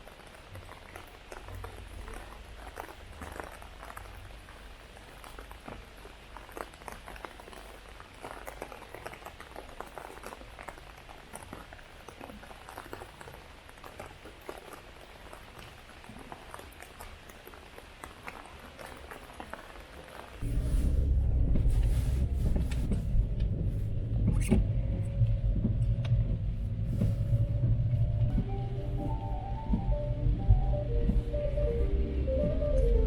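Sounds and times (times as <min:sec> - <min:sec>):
heavy rain pattering: 0:00.0 - 0:33.0.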